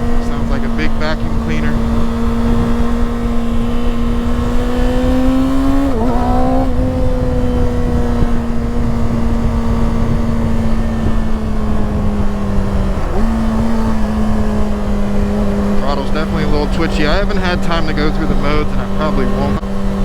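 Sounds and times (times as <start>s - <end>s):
low wind rumble: 0.0s - 20.0s
motorcycle engine droning: 0.0s - 20.0s.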